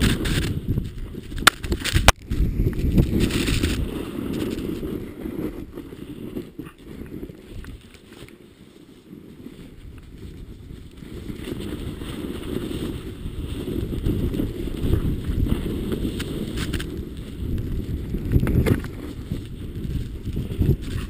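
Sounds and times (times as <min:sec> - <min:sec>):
snowboard sliding through powder: 0:00.0 - 0:21.0.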